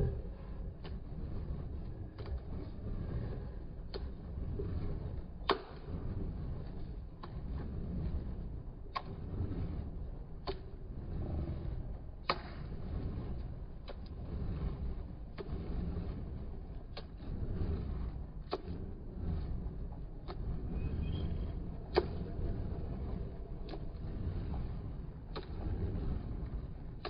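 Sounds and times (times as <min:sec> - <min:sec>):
low rumble of flaming torches: 0:00.0 - 0:27.0.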